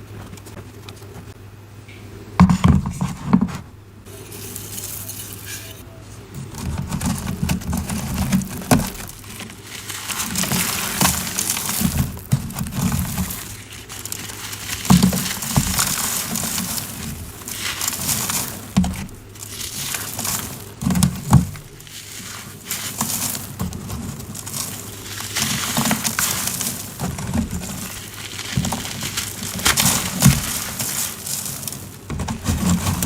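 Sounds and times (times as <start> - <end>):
cornstarch chunks crunching: 4.1 - 33.0.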